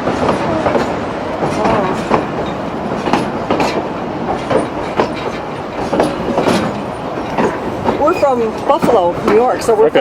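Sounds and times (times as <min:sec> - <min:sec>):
train rumbling: 0:00.0 - 0:10.0
wheels clacking over rail joints: 0:00.0 - 0:10.0.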